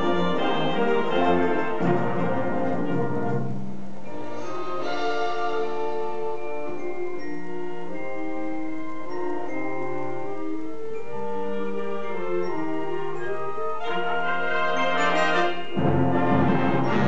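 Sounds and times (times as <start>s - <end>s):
wind band sustained chords: 0.0s - 17.0s.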